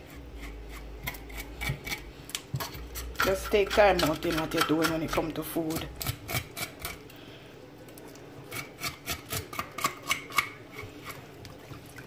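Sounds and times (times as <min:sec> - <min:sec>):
knife scraping fish scales: 0:00.0 - 0:07.1, 0:08.5 - 0:11.3.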